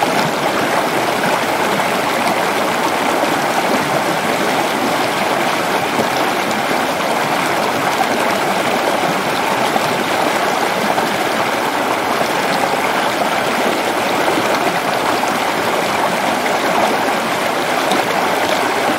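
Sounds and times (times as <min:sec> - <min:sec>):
stream rushing over rocks: 0:00.0 - 0:18.9.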